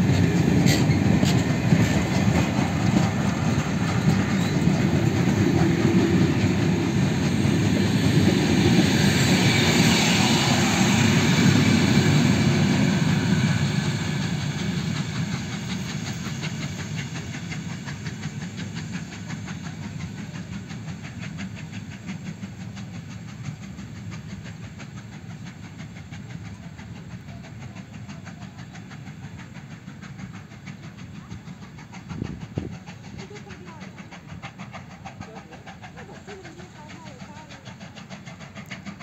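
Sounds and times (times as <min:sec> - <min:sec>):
train wheels clicking on rails: 0:00.0 - 0:39.0.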